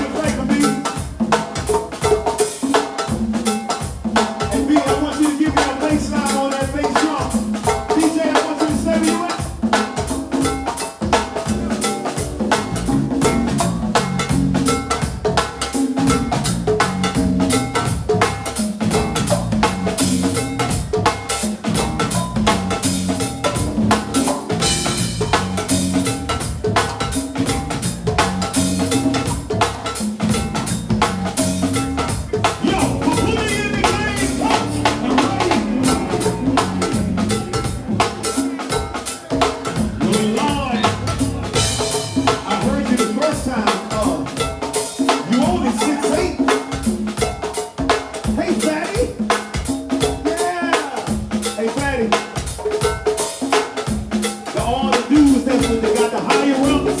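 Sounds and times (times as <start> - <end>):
instrumental band music: 0.0 - 57.0.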